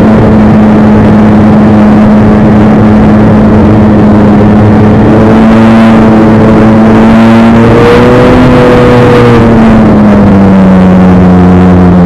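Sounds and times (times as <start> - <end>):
race car engine running: 0.0 - 12.0.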